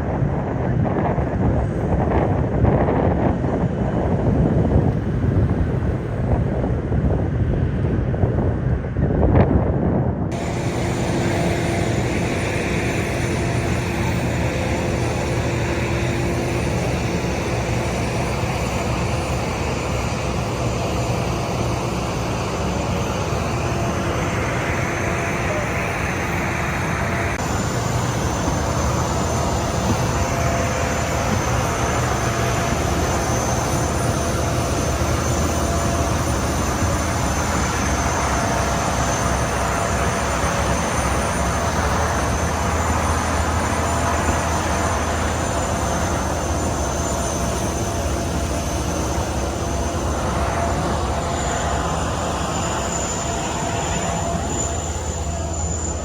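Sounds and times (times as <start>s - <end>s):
aircraft engine rushing with whine: 0.0s - 56.0s.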